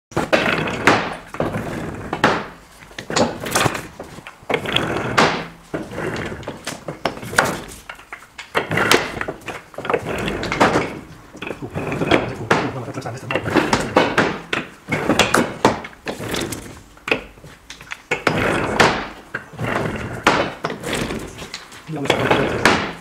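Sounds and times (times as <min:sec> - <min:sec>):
wooden clacks and thunks: 0:00.1 - 0:23.0
toy cars rolling rumble: 0:00.2 - 0:23.0.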